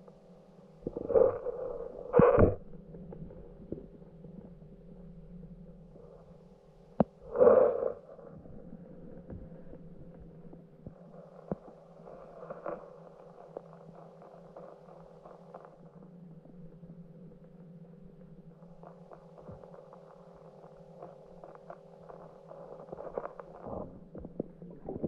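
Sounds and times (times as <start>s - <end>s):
steady low underwater hum: 0.0s - 25.0s.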